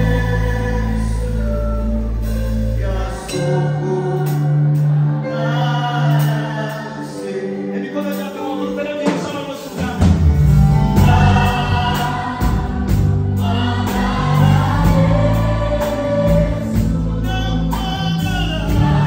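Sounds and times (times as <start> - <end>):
man singing lead: 0.0 - 4.6, 5.2 - 19.0
choir singing: 0.0 - 8.4, 10.7 - 19.0
instrumental backing: 0.0 - 19.0.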